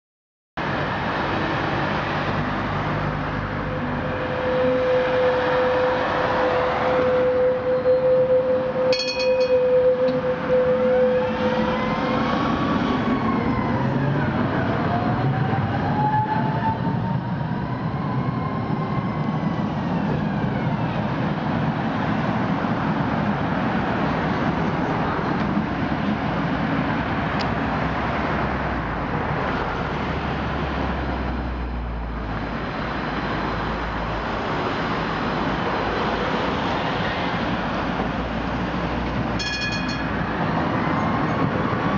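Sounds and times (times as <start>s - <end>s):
street traffic: 0.6s - 41.9s
tram running: 0.7s - 41.9s.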